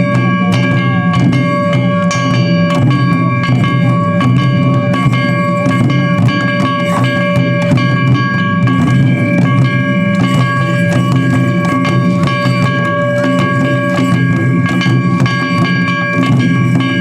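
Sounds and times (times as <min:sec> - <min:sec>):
drum strikes: 0:00.0 - 0:17.0
long high pitched tone: 0:00.0 - 0:17.0.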